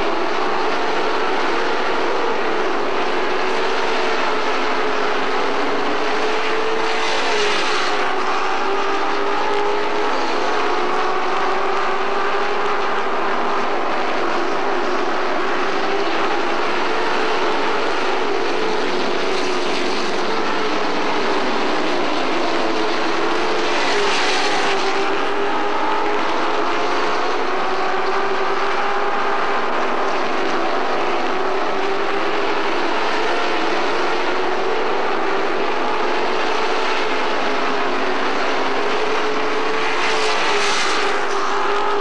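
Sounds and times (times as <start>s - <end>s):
race truck engines circling: 0.0s - 42.0s.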